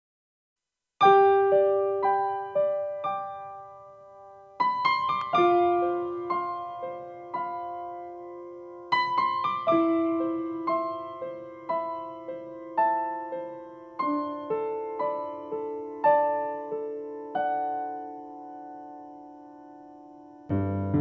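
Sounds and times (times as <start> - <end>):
slow gentle piano music: 1.0 - 21.0.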